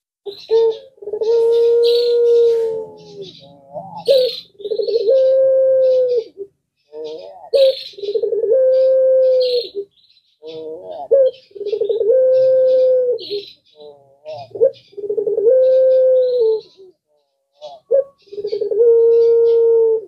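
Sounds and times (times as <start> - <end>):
birds chirping: 0.2 - 20.0
dove cooing: 0.3 - 20.0.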